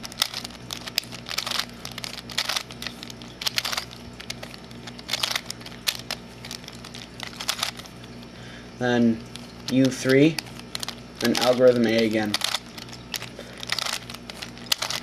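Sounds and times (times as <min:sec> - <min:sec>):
plastic puzzle clicking as twisted: 0:00.0 - 0:07.9, 0:09.3 - 0:15.0.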